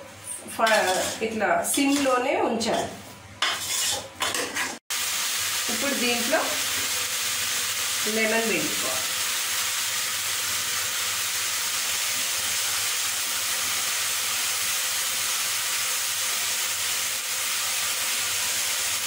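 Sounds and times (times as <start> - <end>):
chicken sizzling in a pot: 3.5 - 19.0.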